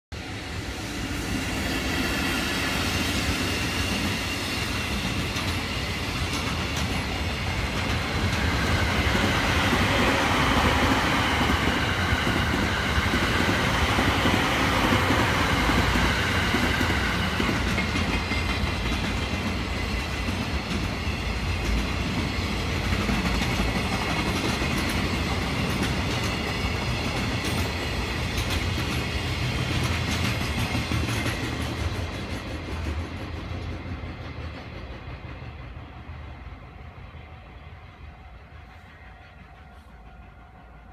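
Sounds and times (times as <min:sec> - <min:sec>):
trains rolling rumble: 0:00.1 - 0:40.9.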